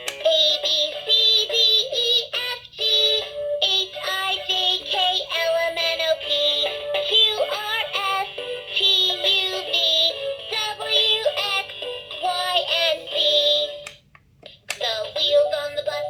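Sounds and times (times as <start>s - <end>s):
electronic children's song toy: 0.0s - 16.0s.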